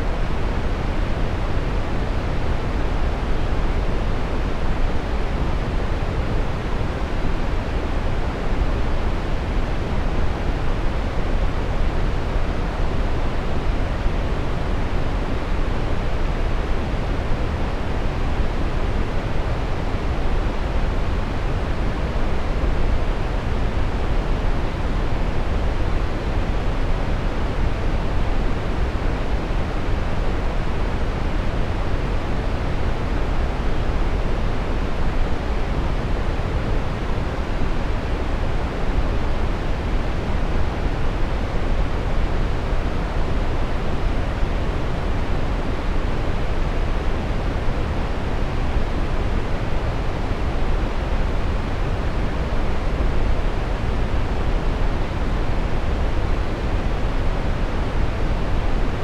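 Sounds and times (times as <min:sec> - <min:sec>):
brown noise: 0:00.0 - 0:59.0.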